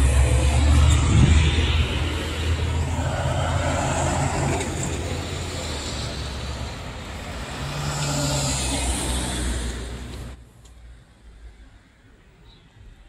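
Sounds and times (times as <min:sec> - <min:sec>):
cars driving by: 0:00.0 - 0:12.6.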